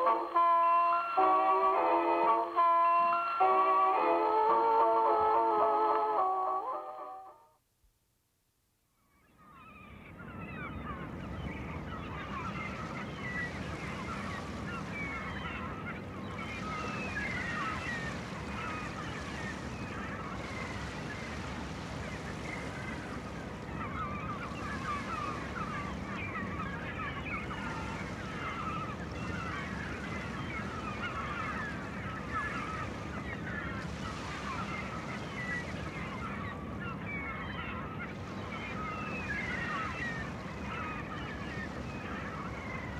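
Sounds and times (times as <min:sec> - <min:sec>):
flock of birds honking: 0:00.0 - 0:07.3, 0:10.3 - 0:42.9.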